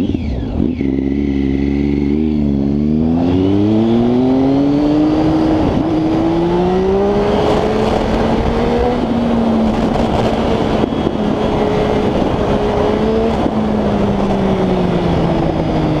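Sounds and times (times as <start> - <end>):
motorcycle engine revving: 0.0 - 16.0
steady rushing noise: 2.1 - 16.0.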